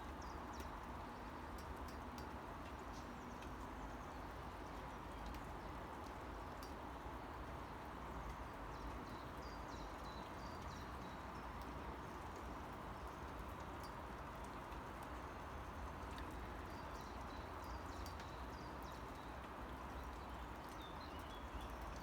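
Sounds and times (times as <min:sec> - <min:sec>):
light rain: 0:00.0 - 0:22.0
sharp water drips: 0:00.0 - 0:22.0.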